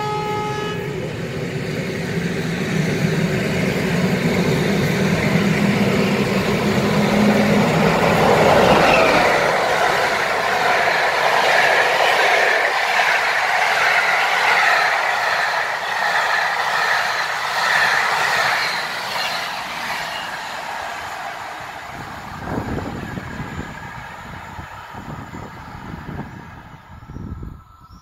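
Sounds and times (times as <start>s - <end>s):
train rushing past: 0.0s - 28.0s.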